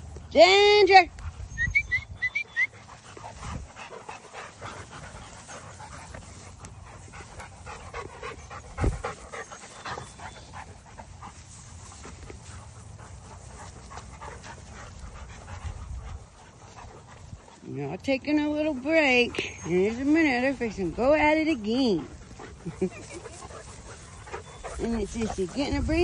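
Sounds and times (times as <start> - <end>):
dogs panting: 1.0 - 26.0.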